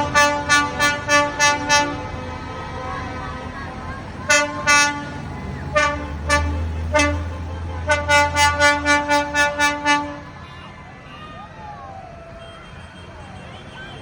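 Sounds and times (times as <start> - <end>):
tractor horn tooting: 0.0 - 11.4, 12.4 - 14.0
low engine rumble: 0.0 - 12.5.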